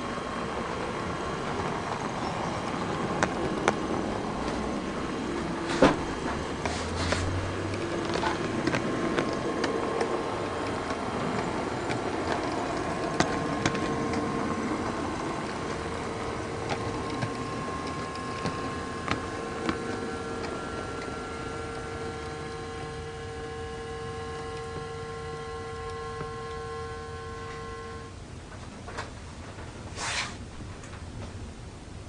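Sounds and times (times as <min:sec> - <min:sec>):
model train running hum: 0:00.0 - 0:32.0
wheels clicking over rail joints: 0:00.0 - 0:32.0.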